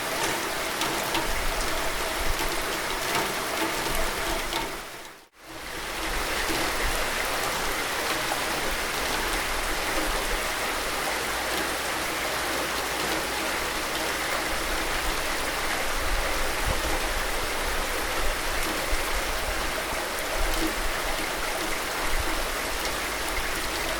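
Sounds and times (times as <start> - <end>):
rain spatters: 0.0 - 23.9
steady rain falling: 0.0 - 23.9.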